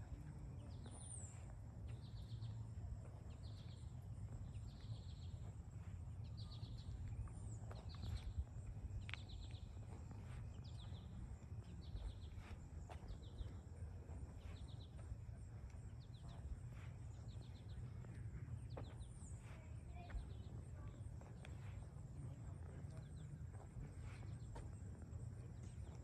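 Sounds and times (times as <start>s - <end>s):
faint low rumble: 0.0s - 26.0s
small birds chirping: 0.0s - 26.0s.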